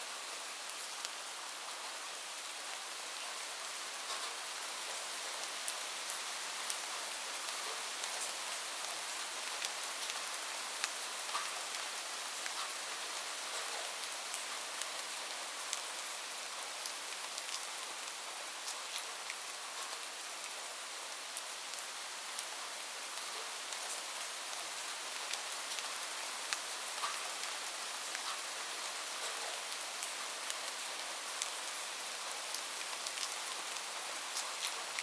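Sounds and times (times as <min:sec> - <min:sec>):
light rain hiss: 0:00.0 - 0:35.0
raindrops ticking on surface: 0:04.0 - 0:20.2, 0:21.3 - 0:35.0.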